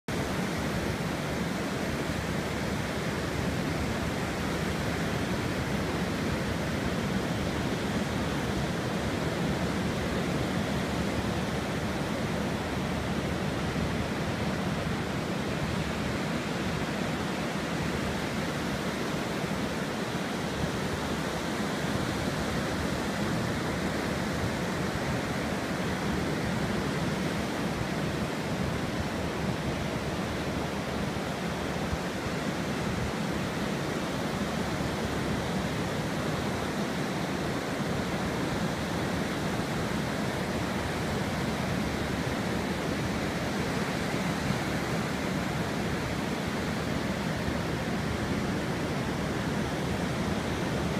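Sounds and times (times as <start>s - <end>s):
ocean surf on sandy beach: 0.1s - 50.9s.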